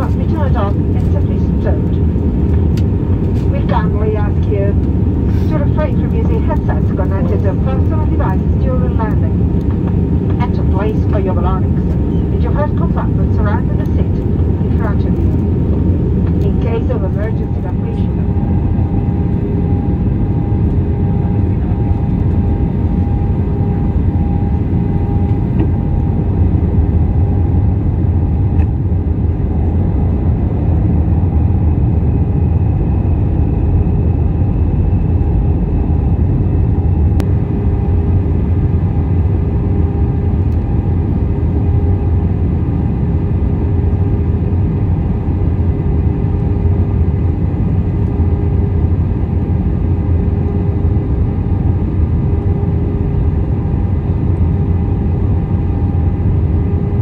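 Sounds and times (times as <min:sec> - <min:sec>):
aircraft engines droning: 0:00.0 - 0:57.0
faint steady hums: 0:00.0 - 0:57.0.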